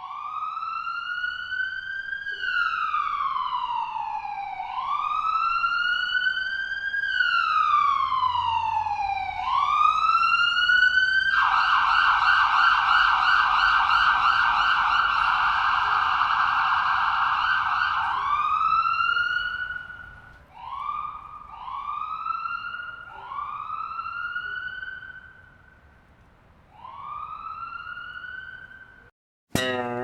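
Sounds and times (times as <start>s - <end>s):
siren wailing: 0.0s - 25.9s, 26.7s - 29.1s.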